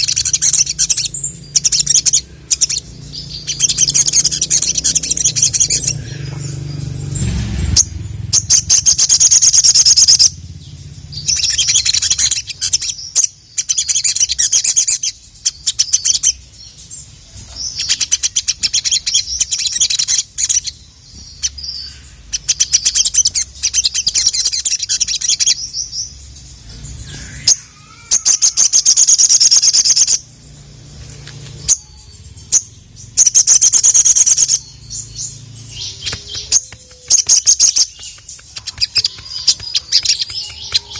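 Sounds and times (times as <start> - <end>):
bird chattering trills: 0.0 - 30.5, 31.6 - 40.9.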